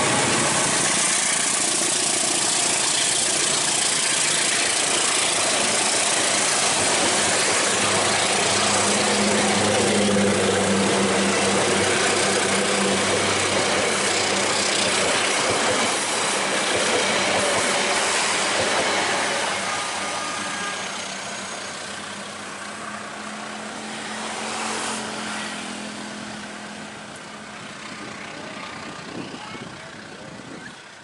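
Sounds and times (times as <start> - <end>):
diesel locomotive engine hum: 0.0 - 31.0
train rolling past: 0.0 - 31.0.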